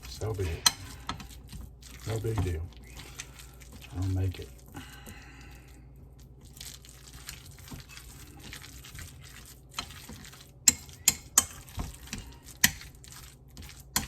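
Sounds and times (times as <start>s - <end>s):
spoon stirring wet mixture: 0.0s - 14.0s.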